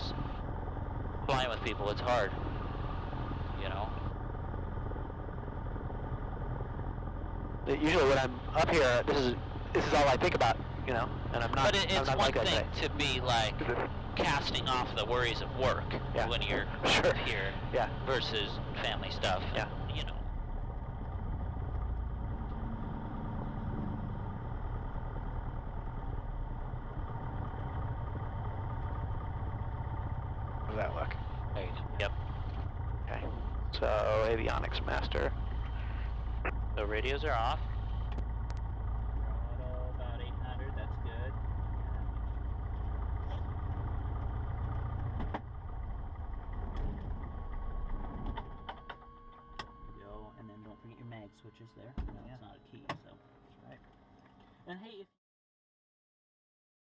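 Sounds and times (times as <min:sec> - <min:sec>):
airplane engine idling: 0:00.0 - 0:54.6.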